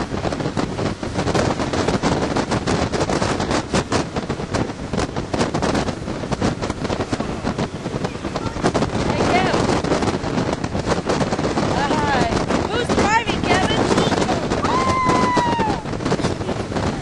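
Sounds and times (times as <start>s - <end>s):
hull slapping choppy water: 0.0s - 17.0s
wind buffeting microphone: 0.0s - 17.0s.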